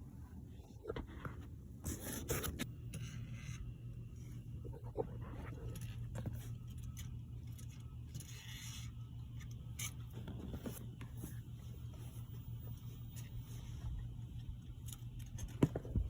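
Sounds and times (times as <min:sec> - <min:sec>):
steady low hum: 0:00.0 - 0:16.0
faint scraping handling noises: 0:00.1 - 0:16.0.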